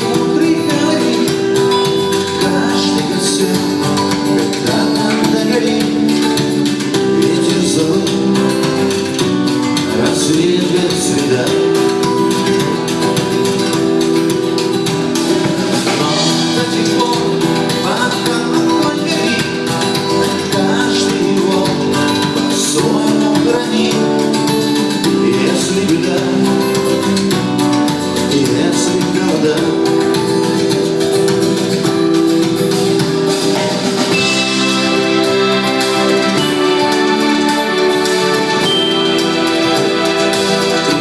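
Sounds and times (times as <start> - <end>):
live band with guitar: 0.0 - 41.0.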